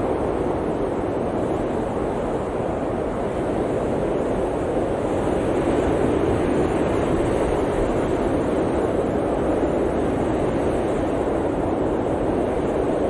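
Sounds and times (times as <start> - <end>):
blizzard wind rushing: 0.0 - 13.0.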